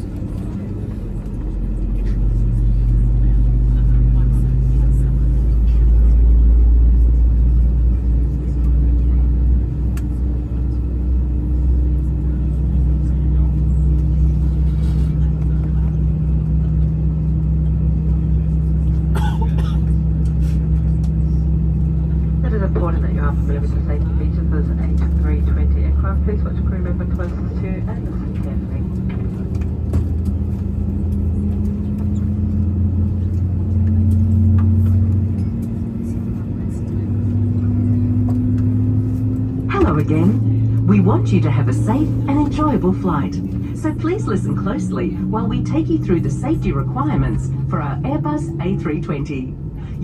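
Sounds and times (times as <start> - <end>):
aircraft cabin engine rumble: 0.0 - 50.0.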